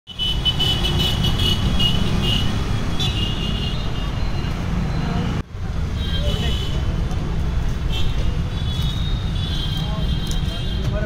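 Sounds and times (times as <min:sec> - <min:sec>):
traffic rumble: 0:00.1 - 0:11.0.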